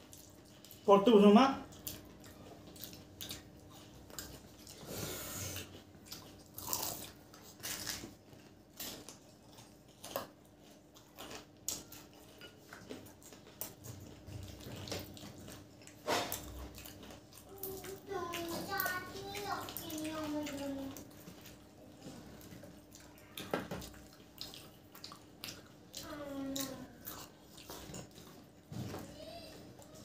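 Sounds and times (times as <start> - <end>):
people chewing: 0.0 - 30.0
crunching pastry: 5.6 - 30.0.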